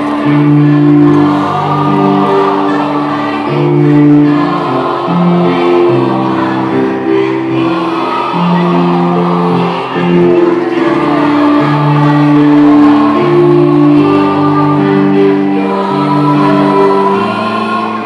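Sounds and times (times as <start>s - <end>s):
choir singing in harmony: 0.0s - 18.0s.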